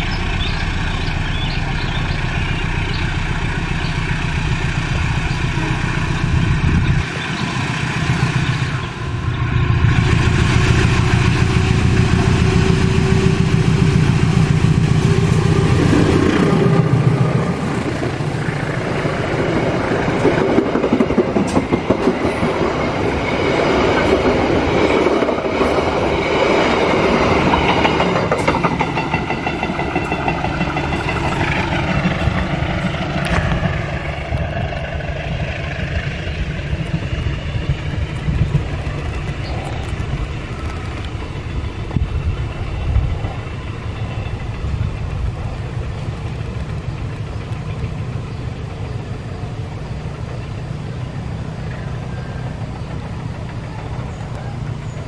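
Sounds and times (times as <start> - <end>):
locomotive engine drone: 0.0 - 55.0
wheels clacking on rails: 0.0 - 55.0.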